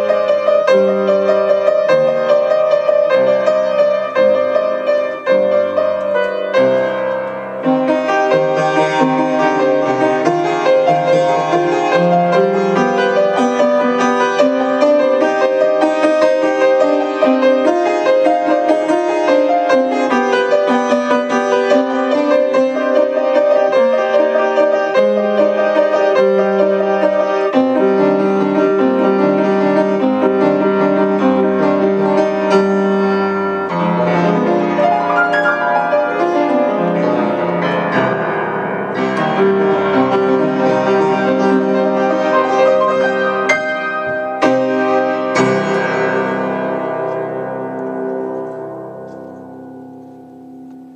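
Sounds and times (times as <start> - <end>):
solo piano playing: 0.0 - 50.9.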